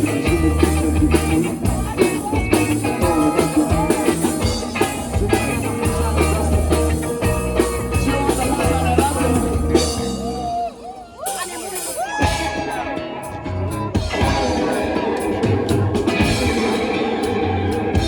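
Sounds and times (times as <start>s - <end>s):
drum kit beat: 0.0s - 18.0s
live rock band playing: 0.0s - 18.0s.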